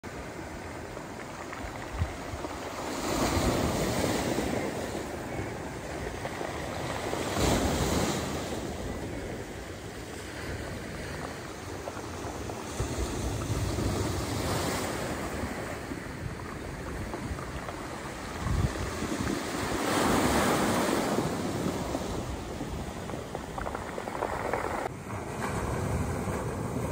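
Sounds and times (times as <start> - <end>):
sea waves washing over rocks: 0.0 - 26.9
wind rumbling on microphone: 0.0 - 26.9.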